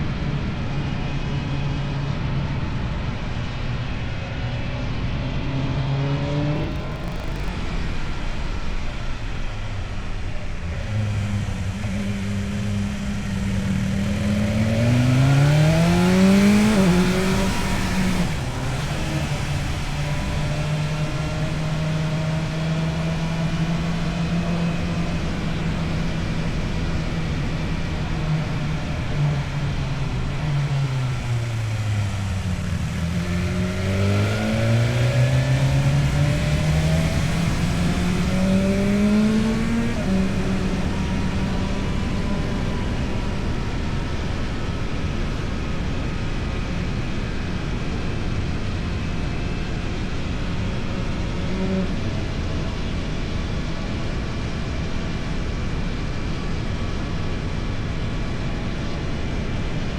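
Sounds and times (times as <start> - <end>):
motorcycle engine revving: 5.2 - 54.8.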